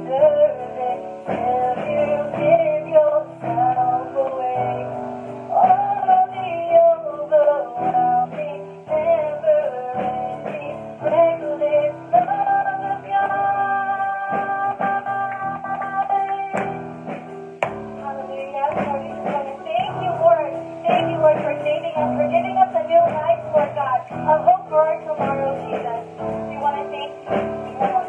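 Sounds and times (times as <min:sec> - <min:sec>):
person singing: 0:00.0 - 0:28.0.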